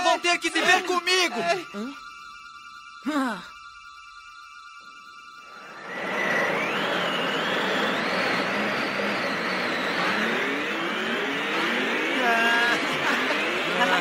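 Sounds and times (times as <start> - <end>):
thin wavering whistle: 0.0 - 14.0.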